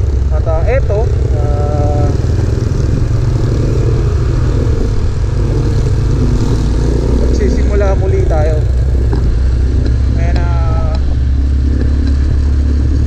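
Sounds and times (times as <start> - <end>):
motorcycle engine rumble: 0.0 - 13.0
road and wind noise: 0.0 - 13.0.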